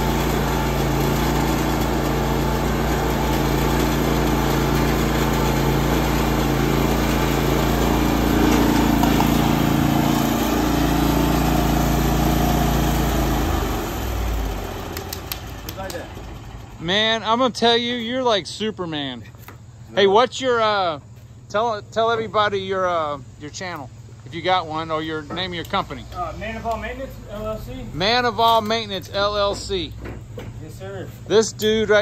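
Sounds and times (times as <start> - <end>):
mower engine running: 0.0 - 18.4, 21.8 - 32.0.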